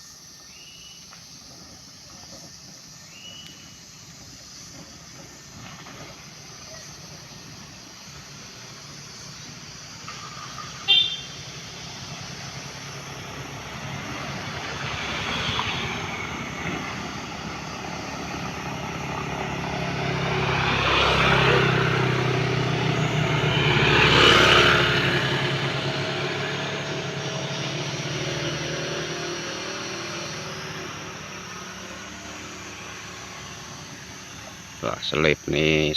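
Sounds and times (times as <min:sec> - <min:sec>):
vehicle engine under heavy load: 0:01.1 - 0:35.9.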